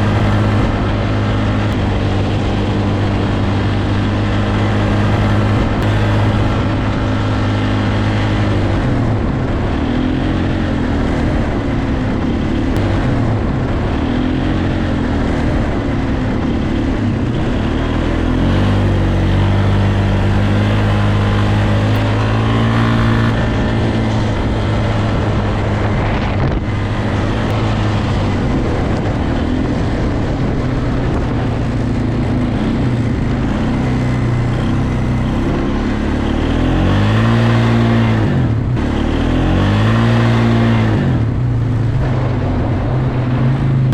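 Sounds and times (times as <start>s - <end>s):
atv engine revving: 0.0s - 43.9s.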